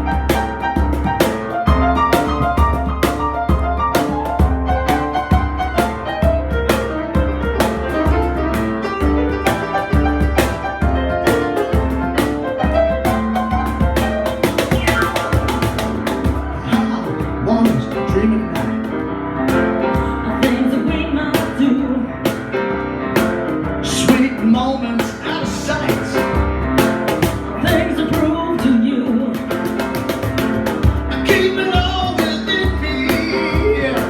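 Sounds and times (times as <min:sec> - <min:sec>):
steady drum beat: 0:00.0 - 0:22.5, 0:23.1 - 0:34.0
live band instrumental: 0:00.0 - 0:34.0
piano: 0:00.0 - 0:34.0.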